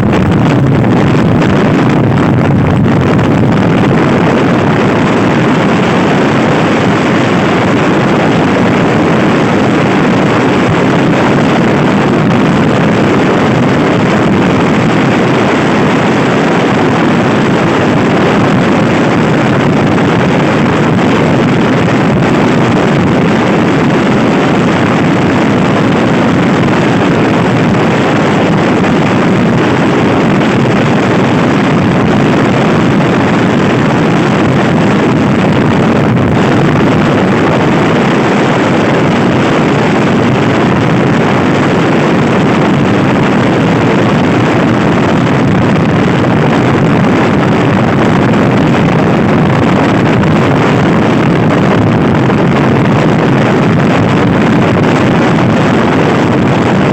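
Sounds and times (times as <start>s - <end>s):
wind rushing over microphone: 0.0s - 56.9s.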